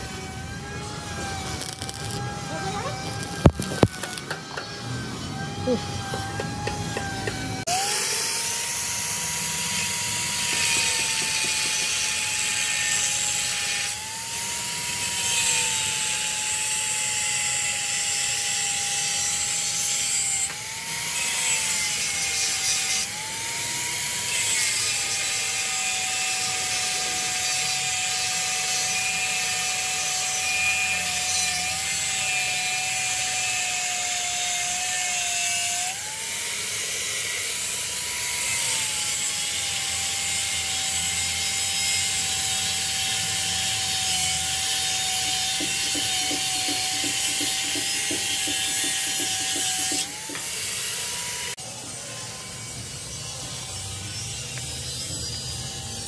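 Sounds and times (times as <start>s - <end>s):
angle grinder whine: 0.0s - 56.0s.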